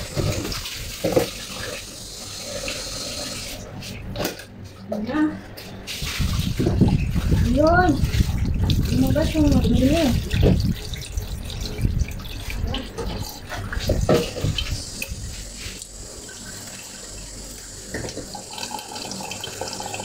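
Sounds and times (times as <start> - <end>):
water running in washing machine: 0.0 - 20.0.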